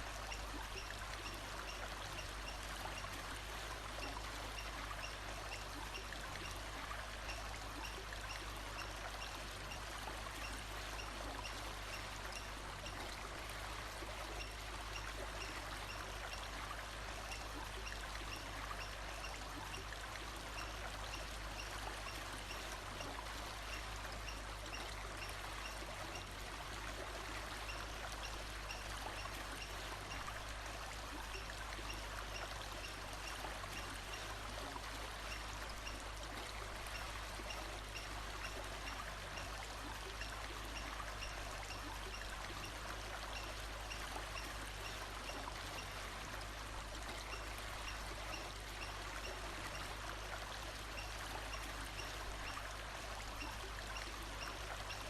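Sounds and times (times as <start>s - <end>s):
stream rushing and trickling: 0.0s - 55.0s.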